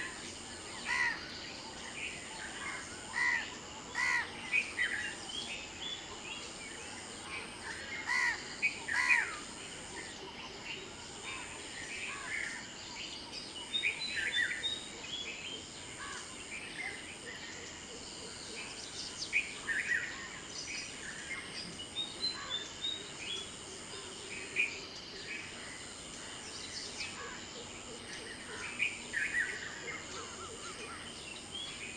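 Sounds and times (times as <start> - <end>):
songbirds chirping and singing: 0.0 - 31.9.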